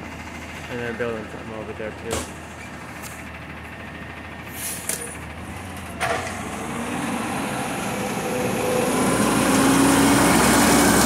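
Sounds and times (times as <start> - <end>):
garbage truck engine: 0.0 - 11.0.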